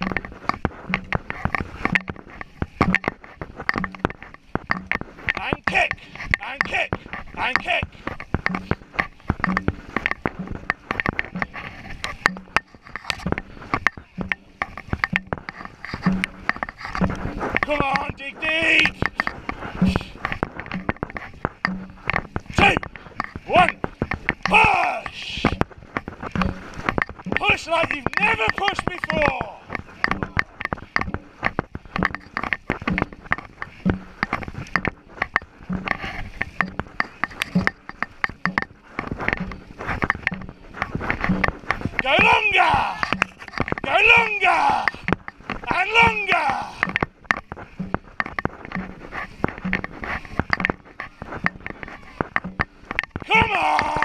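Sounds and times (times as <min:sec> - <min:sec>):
low rhythmic knock: 0:00.0 - 0:54.0
paddles clacking and splashing: 0:00.0 - 0:54.0.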